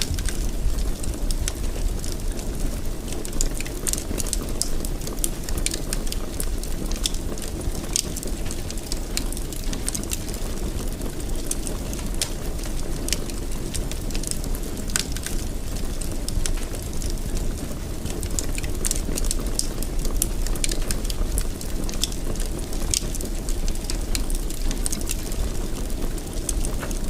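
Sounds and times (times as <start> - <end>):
fire crackling and popping: 0.0 - 27.0
fire rumbling: 0.0 - 27.0.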